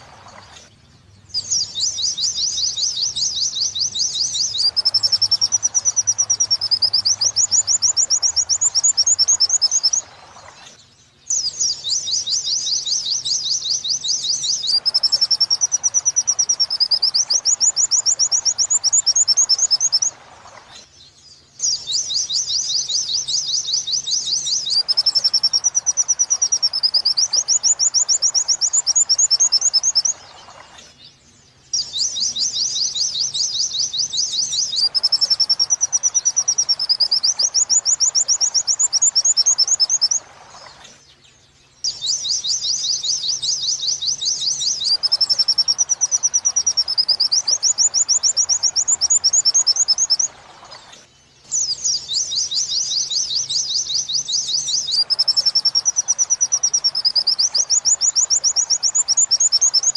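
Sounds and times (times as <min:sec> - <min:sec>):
white-eye bird song trills: 0:00.0 - 0:59.9.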